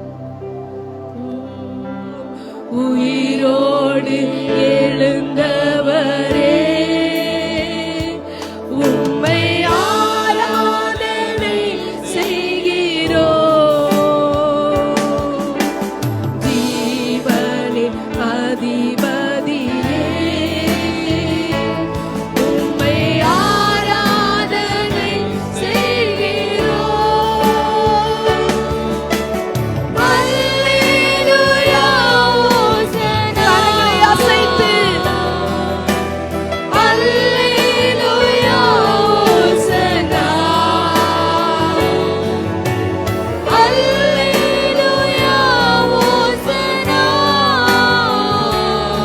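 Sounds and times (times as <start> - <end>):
bass: 0.0 - 2.4, 4.8 - 49.0
keyboard: 0.0 - 49.0
people singing worship song: 0.0 - 49.0.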